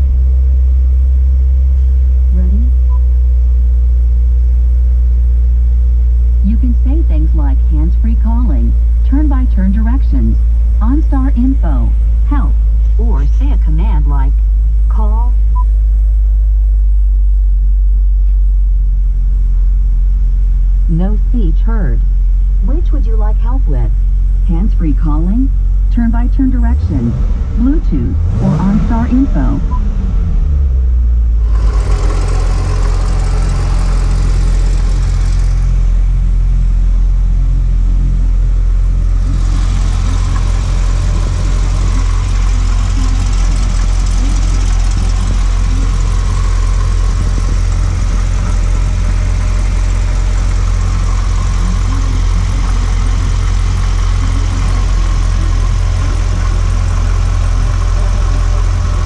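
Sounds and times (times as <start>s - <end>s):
car engine idling: 0.0s - 21.4s, 22.0s - 59.0s.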